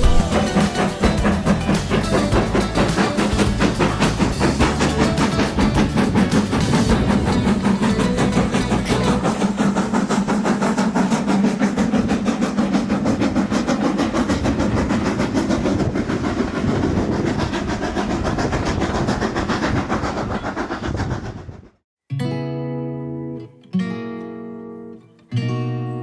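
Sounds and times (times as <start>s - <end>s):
train running with rhythmic beat: 0.0s - 21.7s.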